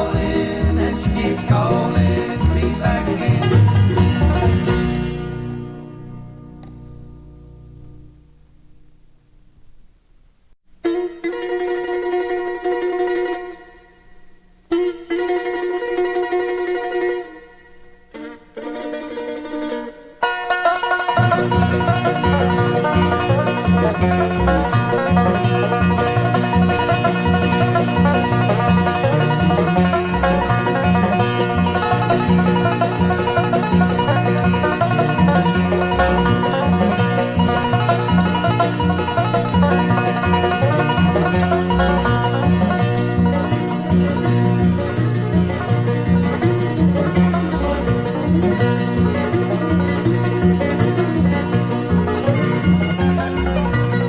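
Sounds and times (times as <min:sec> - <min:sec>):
guitar: 0:00.0 - 0:09.9, 0:10.8 - 0:54.0
banjo picking: 0:00.0 - 0:10.1, 0:10.7 - 0:54.0
bass line: 0:00.0 - 0:10.4, 0:21.0 - 0:54.0
mandolin: 0:00.0 - 0:54.0.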